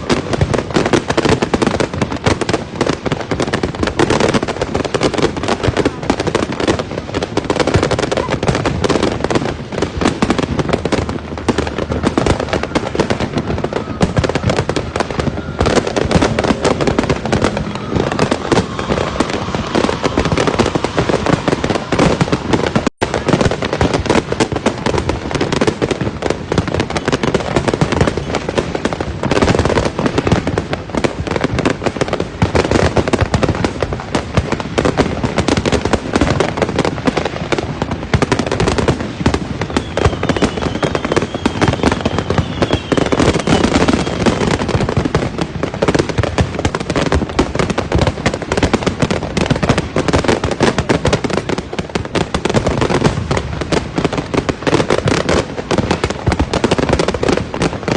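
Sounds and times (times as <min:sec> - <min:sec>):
fireworks and firecrackers banging: 0:00.0 - 0:57.9.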